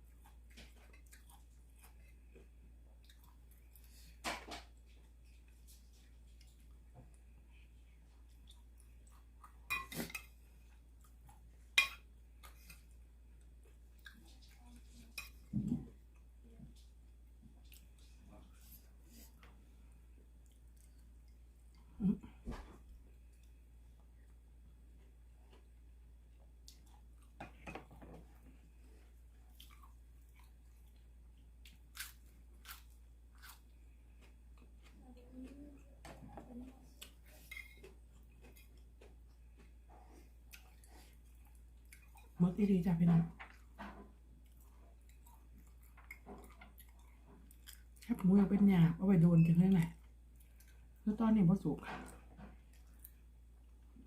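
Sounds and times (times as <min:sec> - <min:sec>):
person chewing food: 0:00.0 - 0:42.4, 0:43.4 - 0:48.1, 0:49.9 - 0:51.0, 0:52.0 - 0:54.0.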